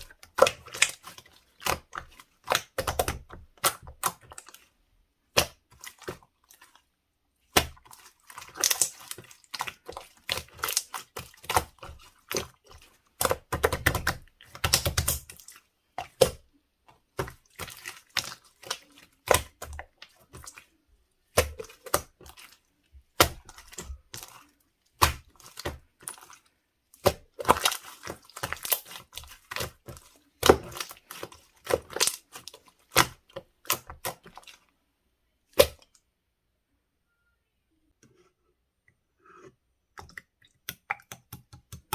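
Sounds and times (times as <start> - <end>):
hands squishing slime: 0.0 - 34.7, 35.5 - 36.0.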